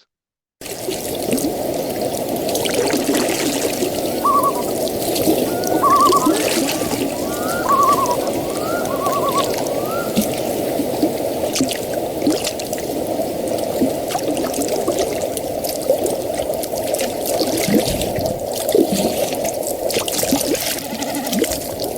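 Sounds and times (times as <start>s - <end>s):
small water splashes and drips: 0.6s - 21.9s
water bubbling and trickling: 0.6s - 21.9s.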